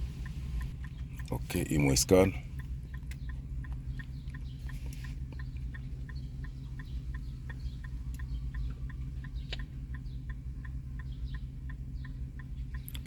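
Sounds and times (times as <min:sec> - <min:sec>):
hazard light flasher ticking: 0:00.0 - 0:13.0
low hum: 0:00.0 - 0:13.0.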